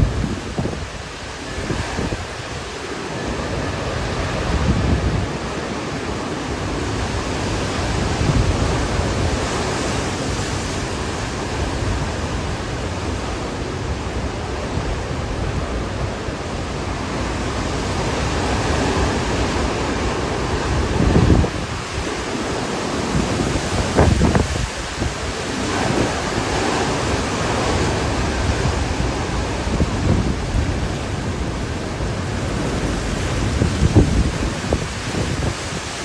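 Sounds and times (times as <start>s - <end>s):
wind and rain rushing: 0.0s - 36.0s
wind gusts buffeting microphone: 0.0s - 36.0s.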